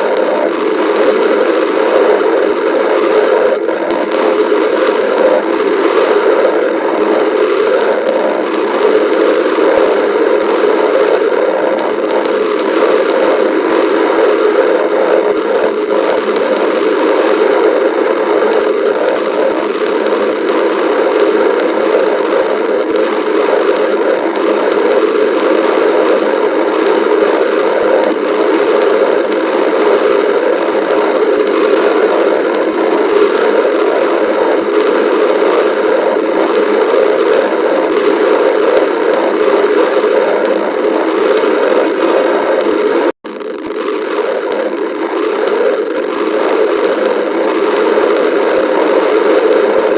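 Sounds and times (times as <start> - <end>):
stomach growling: 0.0 - 49.9.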